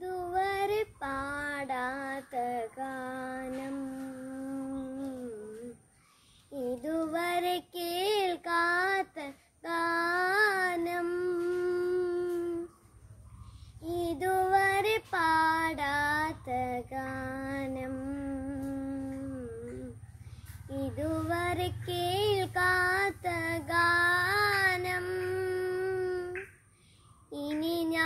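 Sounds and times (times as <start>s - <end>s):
boy singing: 0.0s - 5.8s, 6.5s - 12.7s, 13.8s - 20.0s, 20.7s - 26.5s, 27.3s - 28.0s.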